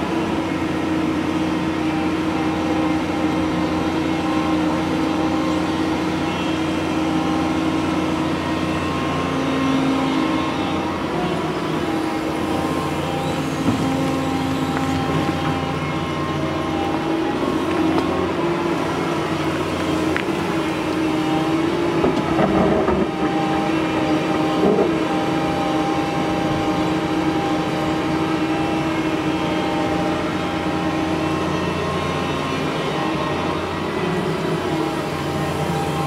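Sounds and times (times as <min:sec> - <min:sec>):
excavator diesel hum: 0:00.0 - 0:36.0
excavator whine: 0:00.0 - 0:36.0.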